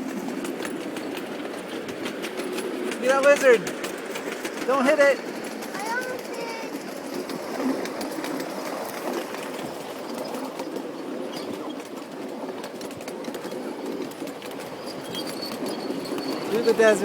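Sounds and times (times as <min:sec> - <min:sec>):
ride-on train rattling on track: 0:00.0 - 0:17.0.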